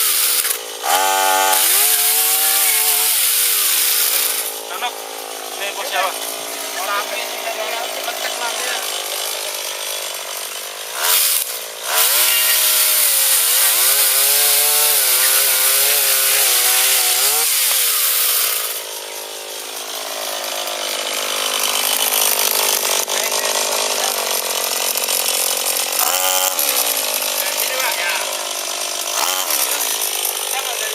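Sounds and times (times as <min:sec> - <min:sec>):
small engine revving: 0:00.0 - 0:30.9.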